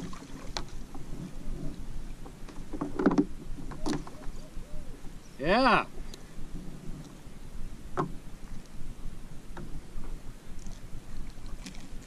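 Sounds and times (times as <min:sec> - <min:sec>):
water lapping against kayak: 0:00.0 - 0:05.2, 0:05.9 - 0:12.0.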